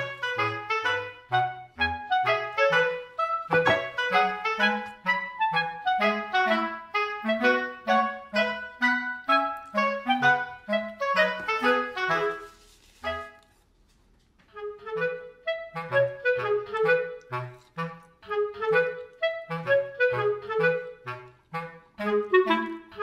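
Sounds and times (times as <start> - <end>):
bouncy melody: 0.0 - 13.6, 14.4 - 23.0.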